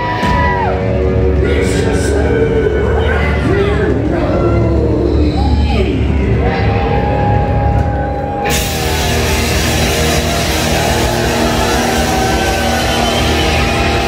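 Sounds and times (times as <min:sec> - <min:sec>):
bass guitar: 0:00.0 - 0:14.0
drums and cymbals: 0:00.0 - 0:14.0
electric guitar: 0:00.0 - 0:14.0.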